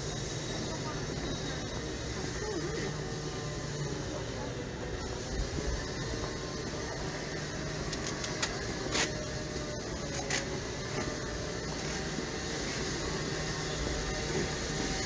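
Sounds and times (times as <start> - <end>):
market background hum: 0.0 - 15.0.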